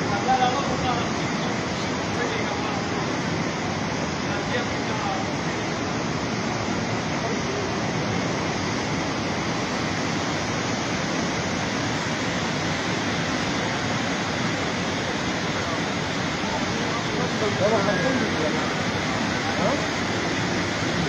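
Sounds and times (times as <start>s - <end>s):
rushing river floodwater: 0.0s - 21.0s.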